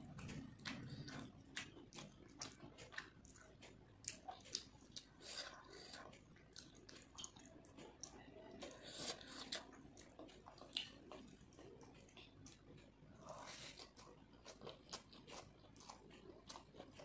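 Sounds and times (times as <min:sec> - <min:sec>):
wet chewing and lip smacking: 0:00.0 - 0:17.0.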